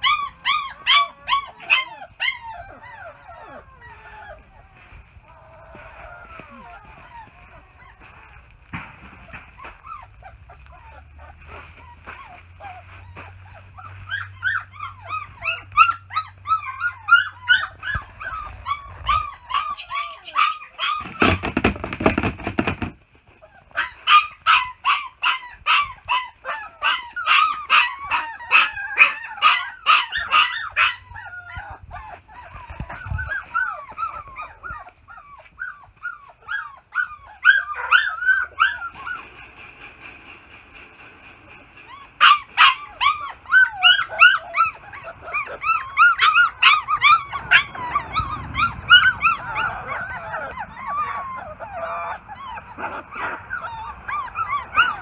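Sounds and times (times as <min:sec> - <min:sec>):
puppies whining and yelping: 0:00.0 - 0:55.0.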